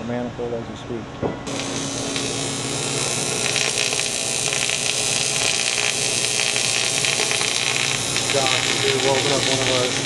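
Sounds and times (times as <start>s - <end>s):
faint electrical hum: 0.0s - 10.0s
welding arc hissing: 1.5s - 10.0s.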